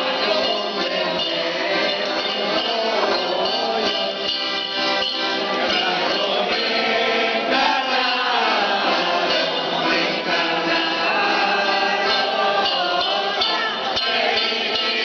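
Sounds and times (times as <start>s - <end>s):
accordion: 0.0s - 15.0s
group of people singing: 0.0s - 15.0s.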